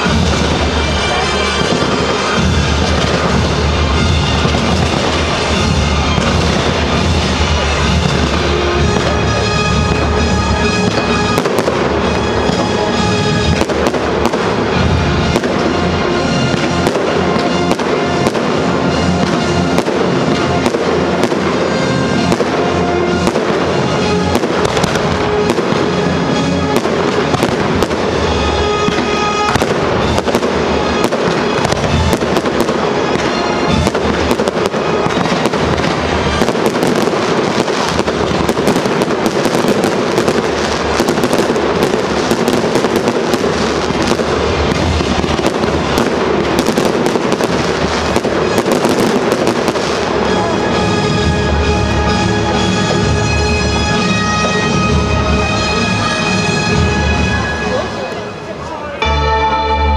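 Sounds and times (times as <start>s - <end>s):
fireworks crackling and bursting: 0.0s - 59.1s
loud music: 0.0s - 59.9s.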